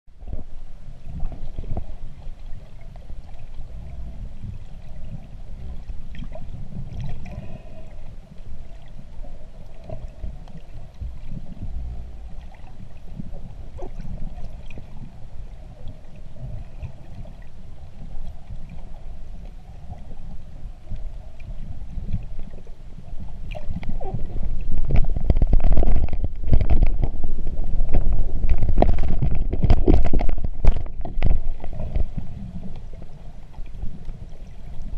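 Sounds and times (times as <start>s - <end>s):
underwater rumble: 0.1s - 34.9s
faint underwater clicks: 1.1s - 34.9s.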